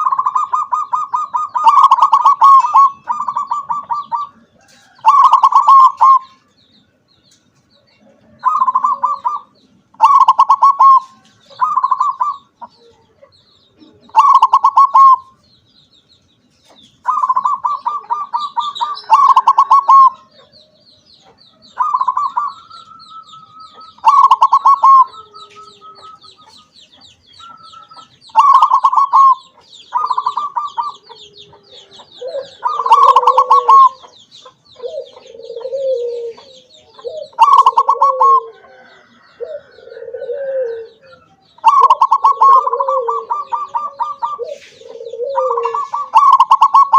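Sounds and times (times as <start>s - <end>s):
dove cooing: 0.0s - 6.5s, 8.0s - 15.4s, 17.0s - 46.9s.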